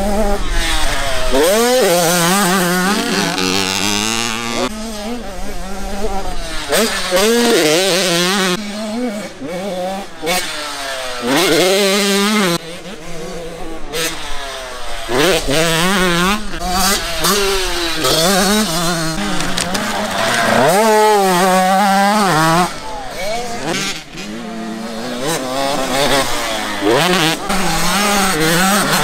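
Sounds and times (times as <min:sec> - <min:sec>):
motocross bikes revving hard: 0:00.0 - 0:29.0.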